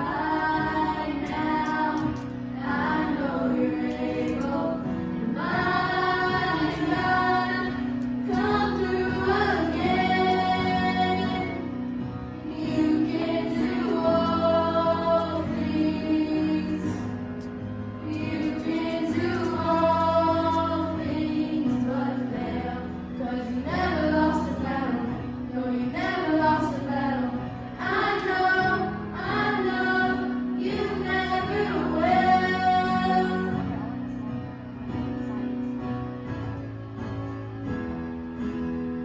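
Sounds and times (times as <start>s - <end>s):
group singing a worship song: 0.0s - 11.7s, 12.4s - 17.2s, 18.0s - 33.8s
instrumental accompaniment: 0.0s - 39.0s.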